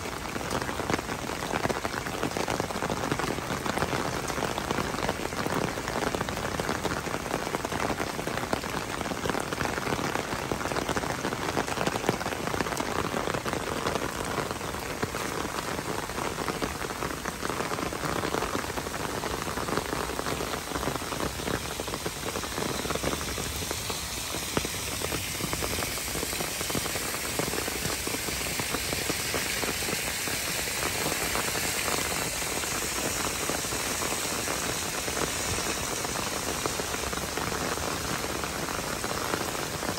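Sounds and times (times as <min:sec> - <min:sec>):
steady rain on paving: 0:00.0 - 0:39.9.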